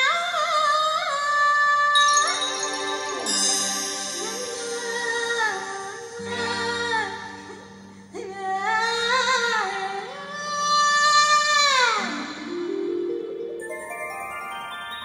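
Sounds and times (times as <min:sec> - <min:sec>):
song with singing voice over speakers: 0:00.0 - 0:15.0.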